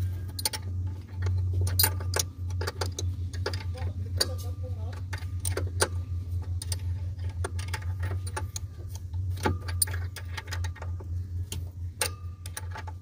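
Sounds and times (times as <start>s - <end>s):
metallic clicks and clinks: 0.0s - 11.0s
low hum: 0.0s - 13.0s.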